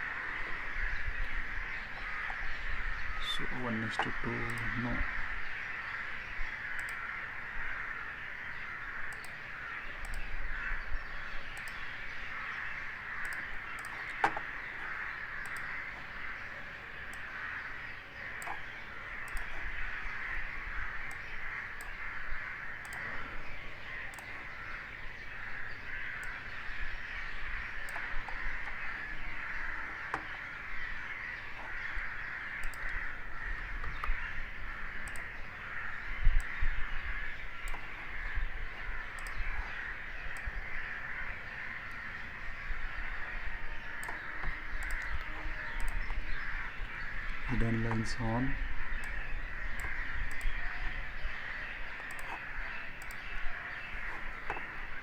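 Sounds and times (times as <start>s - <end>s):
faint clicks: 0.1s - 55.0s.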